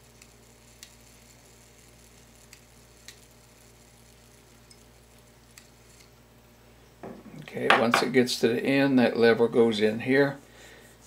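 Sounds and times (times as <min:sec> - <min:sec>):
steady low hum: 0:00.5 - 0:11.0.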